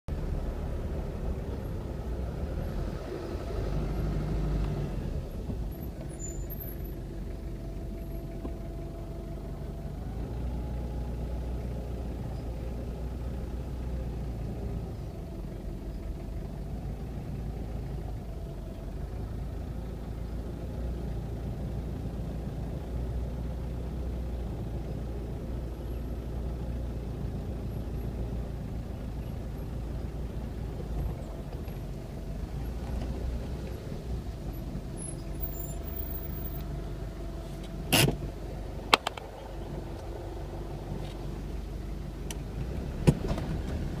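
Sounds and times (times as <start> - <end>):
car engine running: 0.1 - 44.0.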